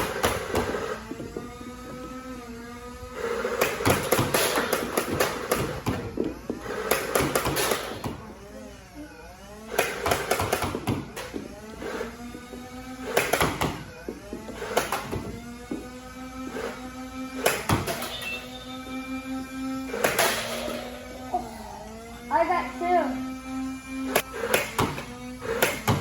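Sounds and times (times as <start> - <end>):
target motor whine: 0.0 - 7.1, 7.8 - 26.0.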